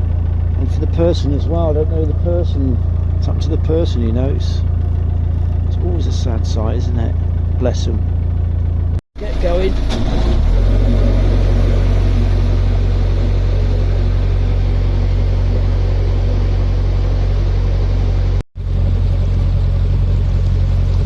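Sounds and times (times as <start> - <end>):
boat diesel engine humming: 0.0 - 21.0.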